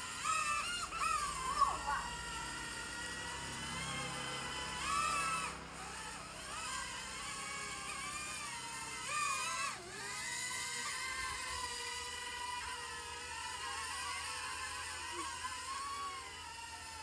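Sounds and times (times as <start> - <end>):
toy jet motors whining: 0.0 - 17.0.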